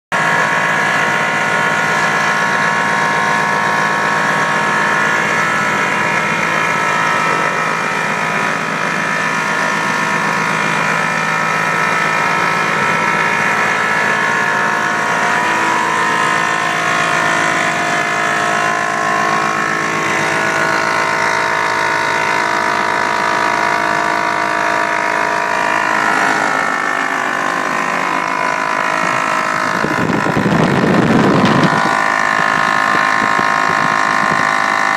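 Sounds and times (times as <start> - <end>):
two-stroke engine running steadily: 0.1 - 34.9.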